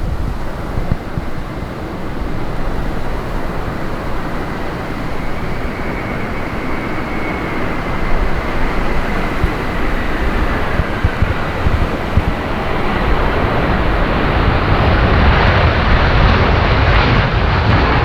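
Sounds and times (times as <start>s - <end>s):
jet engines whining: 0.0s - 18.0s
wind buffeting microphone: 0.0s - 18.0s.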